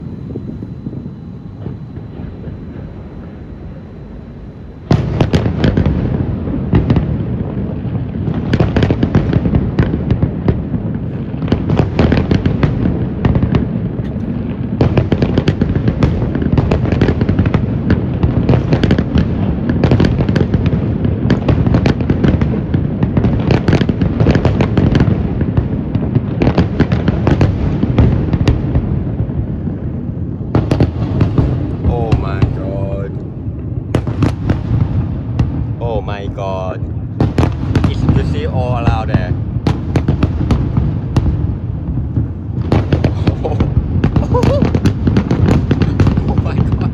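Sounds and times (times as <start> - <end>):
fireworks bangs and crackles: 0.0 - 46.9
steady background noise: 0.0 - 46.9.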